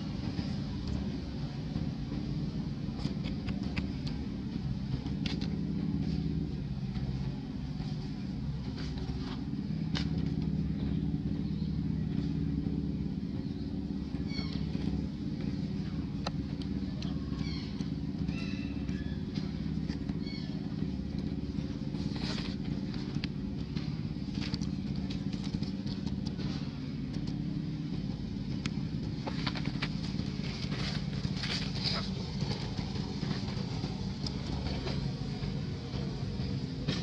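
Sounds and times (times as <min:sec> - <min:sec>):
low motor drone: 0:00.0 - 0:37.0.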